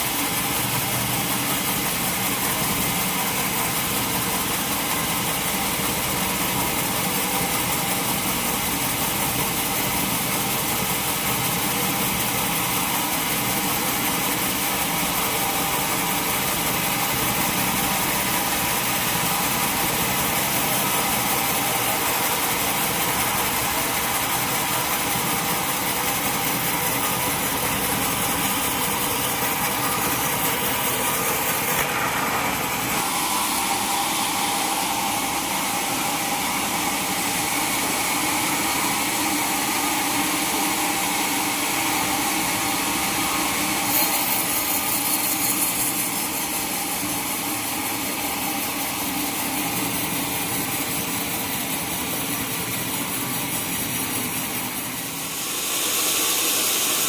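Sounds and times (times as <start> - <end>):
sawmill saw cutting timber: 0.0 - 57.0.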